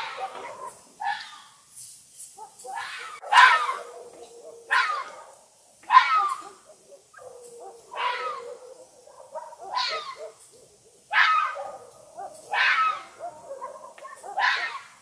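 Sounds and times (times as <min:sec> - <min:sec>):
fox barking: 0:00.0 - 0:01.4, 0:02.4 - 0:15.0
fox yipping: 0:00.0 - 0:01.4, 0:02.4 - 0:10.4, 0:11.1 - 0:15.0.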